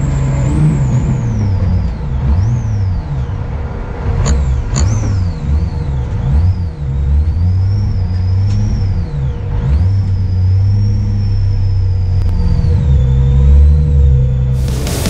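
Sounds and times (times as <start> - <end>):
supercharged car engine revving: 0.0 - 15.0
supercharger whine: 0.0 - 15.0.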